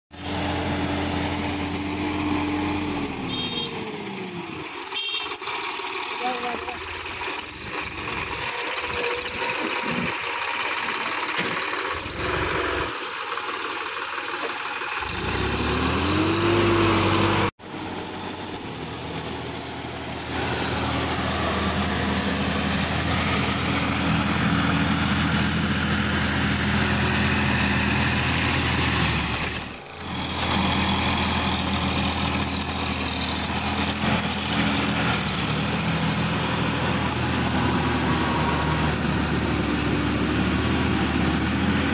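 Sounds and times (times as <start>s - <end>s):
tractor diesel engine: 0.1s - 41.9s.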